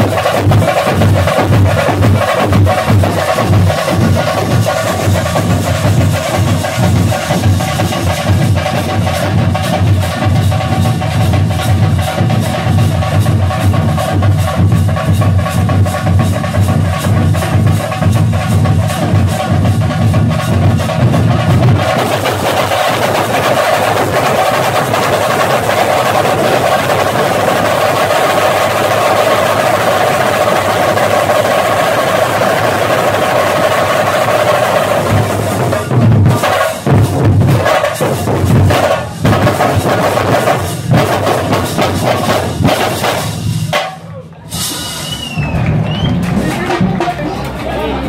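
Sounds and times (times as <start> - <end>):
drum ensemble playing: 0.0 - 48.0.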